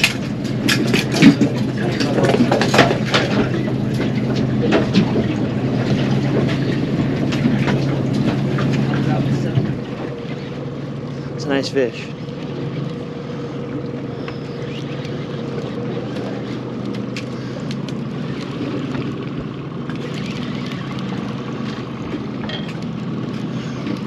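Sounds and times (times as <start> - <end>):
boat motor running: 0.0 - 24.0
water noise: 0.0 - 24.0
wind: 0.0 - 24.0.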